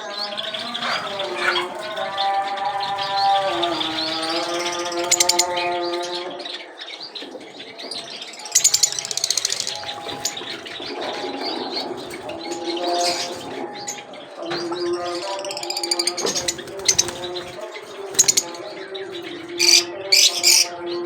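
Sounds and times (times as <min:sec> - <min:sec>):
bird rapid trill: 0:00.0 - 0:06.1, 0:08.4 - 0:14.1, 0:15.4 - 0:20.7
cage birds chirping and twittering: 0:00.0 - 0:21.0.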